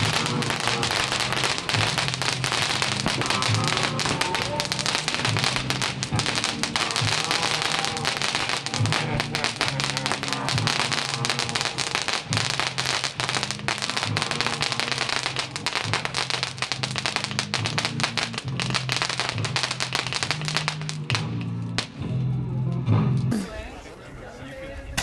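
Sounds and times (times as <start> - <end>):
fireworks crackling: 0.0 - 22.1, 23.3 - 25.0
background music low notes: 0.0 - 25.0.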